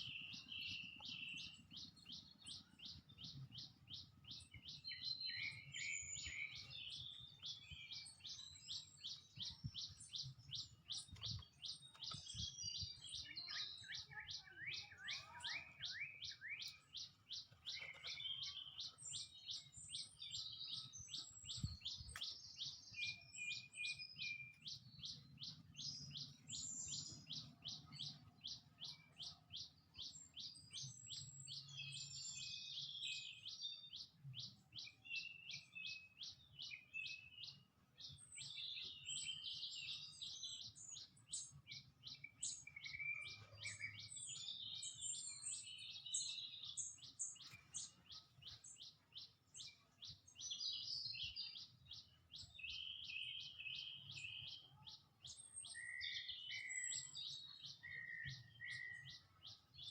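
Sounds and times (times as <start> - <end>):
birds twittering and chattering: 0.0 - 59.9.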